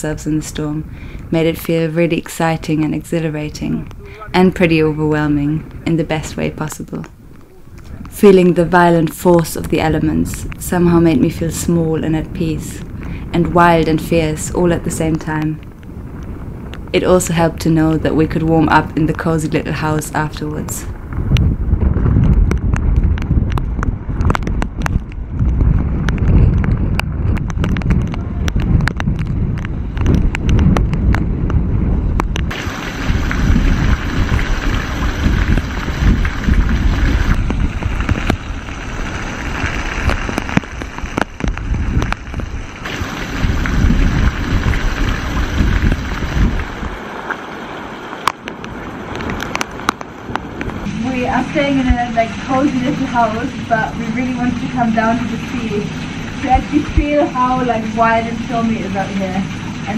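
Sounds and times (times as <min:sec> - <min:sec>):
rain: 0:00.0 - 0:59.9
wind buffeting microphone: 0:00.0 - 0:59.9
raindrop ticks: 0:00.2 - 0:59.9.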